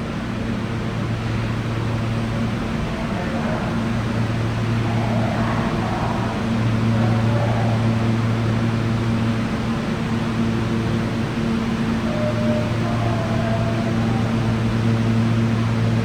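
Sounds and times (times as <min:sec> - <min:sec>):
fan noise: 0:00.0 - 0:16.0
subway train electrical hum: 0:00.0 - 0:16.0.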